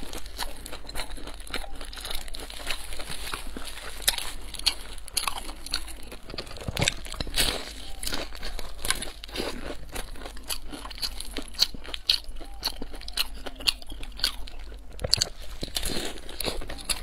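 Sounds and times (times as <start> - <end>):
chewing crispy bread: 0.0 - 17.0.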